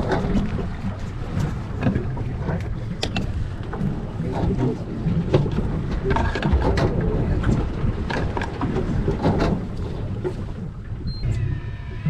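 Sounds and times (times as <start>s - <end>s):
rush of boat and water: 0.0s - 12.0s
wind buffeting microphone: 0.0s - 12.0s.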